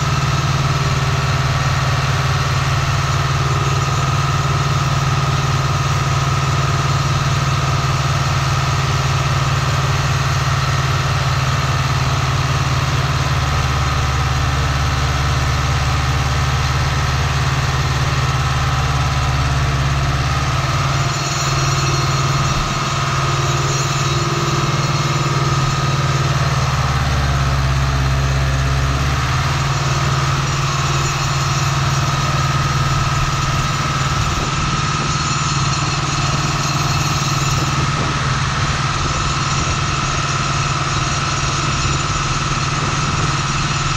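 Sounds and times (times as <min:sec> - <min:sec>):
steady mower whine: 0:00.0 - 0:43.9
tractor diesel engine running: 0:00.0 - 0:43.9.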